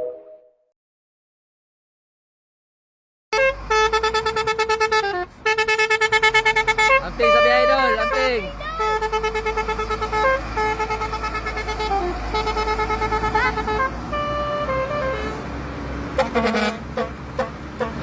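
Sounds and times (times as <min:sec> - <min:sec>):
truck musical horn playing tune: 0:03.3 - 0:18.0.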